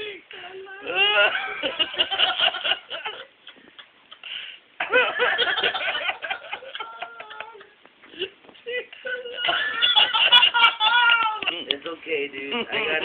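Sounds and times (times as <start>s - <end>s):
people giggling: 0.9s - 11.7s, 12.4s - 13.0s.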